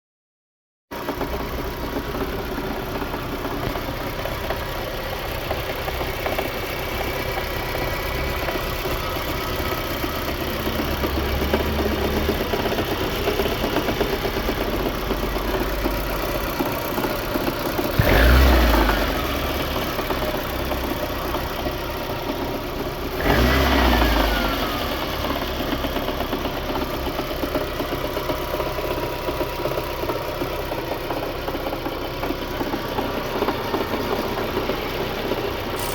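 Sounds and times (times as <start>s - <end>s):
car engine idling with knock: 0.9s - 35.9s.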